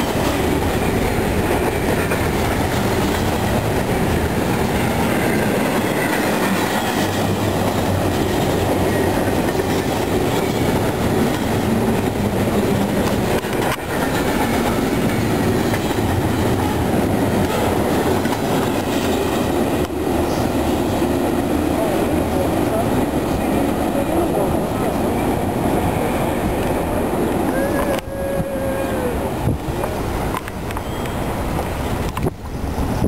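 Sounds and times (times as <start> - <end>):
freight train wheels on rail: 0.0 - 33.0.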